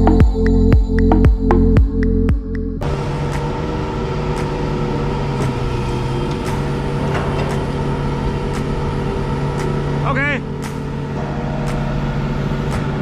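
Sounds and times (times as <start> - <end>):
lorry engine idling: 0.0 - 13.0.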